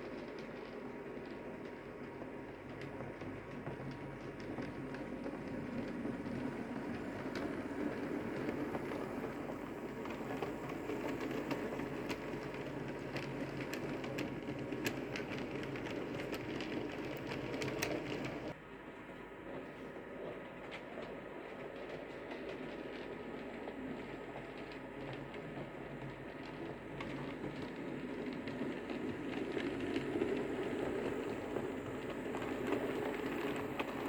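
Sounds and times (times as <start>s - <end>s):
wheels clicking over rail joints: 0.0s - 18.6s, 19.5s - 34.0s
model train rumbling on track: 0.0s - 34.0s.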